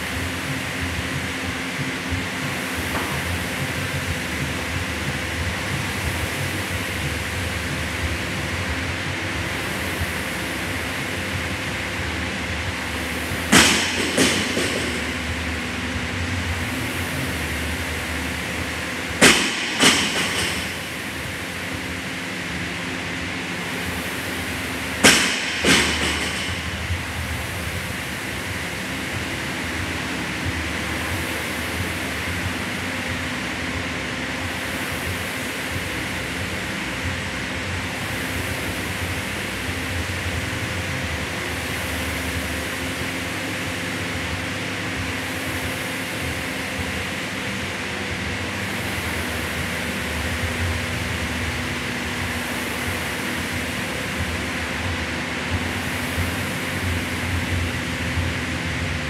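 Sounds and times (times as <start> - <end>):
rowing machine fan flywheel whirring: 0.0 - 59.0.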